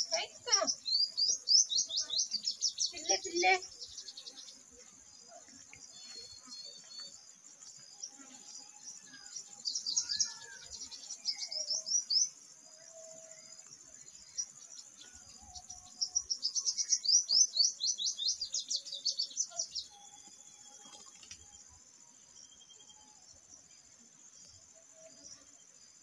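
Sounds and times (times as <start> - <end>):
insect drone: 0.0 - 26.0
sunbird twittering song: 0.0 - 26.0.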